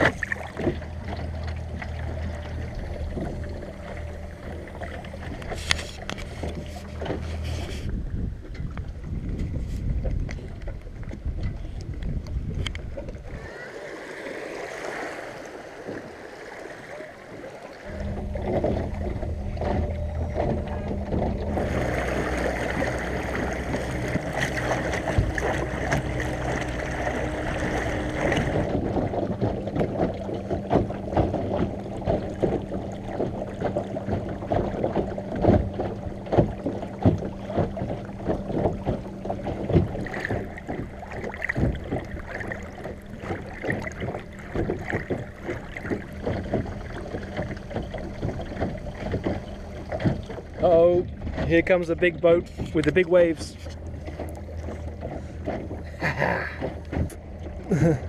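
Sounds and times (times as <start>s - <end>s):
short splashes: 0.0s - 8.0s, 12.9s - 58.0s
steady low hum: 0.0s - 58.0s
water lapping against boat hull: 0.0s - 58.0s.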